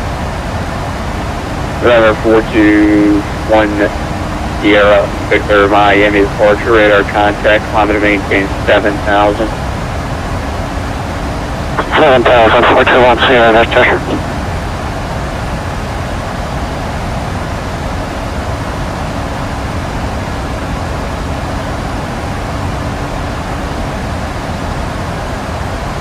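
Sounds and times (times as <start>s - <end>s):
faint steady hum: 0.0s - 26.0s
jet engine and airflow rushing: 0.0s - 26.0s.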